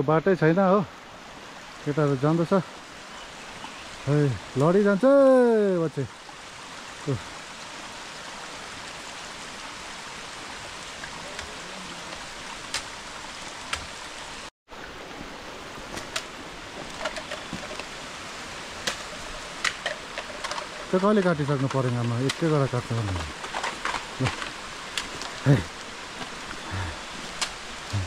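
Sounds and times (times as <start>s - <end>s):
water rushing: 0.0s - 28.0s.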